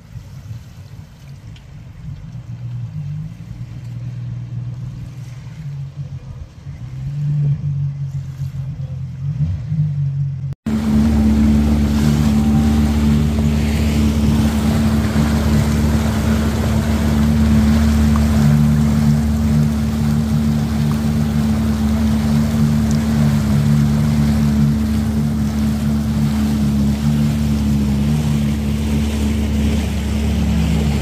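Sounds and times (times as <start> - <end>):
rushing water: 0.0 - 9.7, 10.4 - 31.0
jet ski engine running: 0.0 - 31.0.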